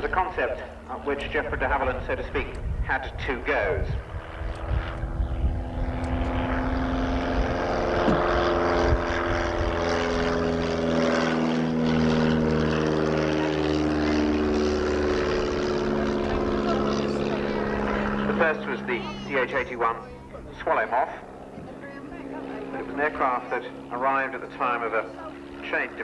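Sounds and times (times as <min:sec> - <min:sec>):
propeller plane droning past: 0:00.0 - 0:26.0.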